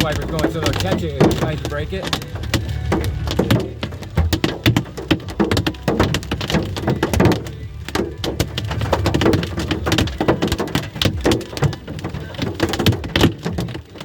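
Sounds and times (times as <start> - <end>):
hailstones hitting car roof: 0.0 - 14.0.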